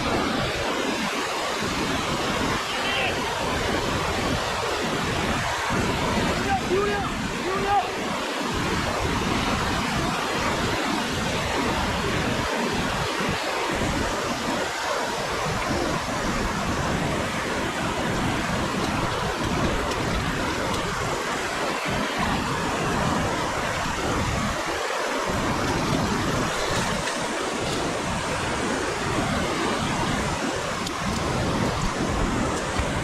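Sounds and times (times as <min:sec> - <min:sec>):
whitewater river rushing: 0:00.0 - 0:33.0
wind buffeting microphone: 0:00.0 - 0:33.0.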